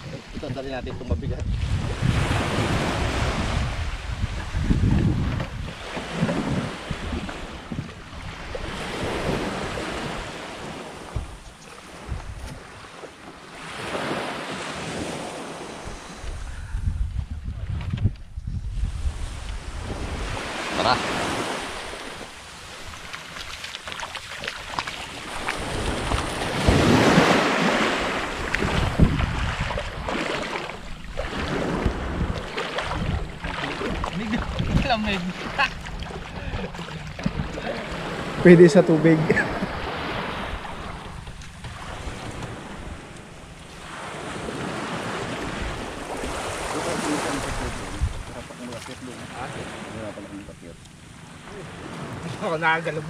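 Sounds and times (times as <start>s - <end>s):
wind buffeting microphone: 0.0s - 12.9s, 14.8s - 23.4s, 24.4s - 50.2s
sea water washing: 0.0s - 16.5s, 18.9s - 53.0s.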